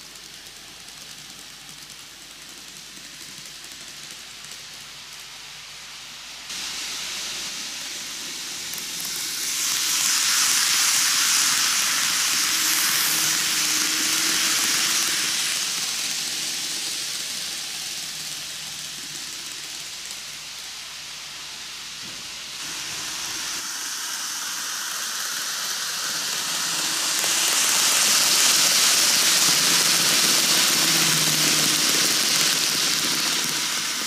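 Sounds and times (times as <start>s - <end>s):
model train hissing rattle: 0.0s - 34.0s.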